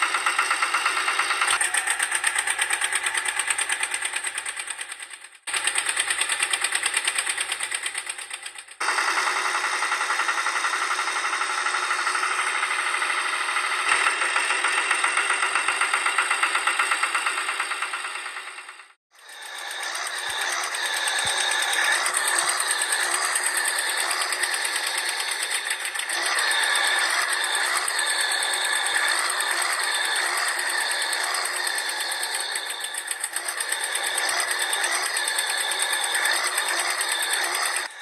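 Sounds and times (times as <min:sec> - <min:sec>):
toy electric motors whirring: 0:00.0 - 0:38.0.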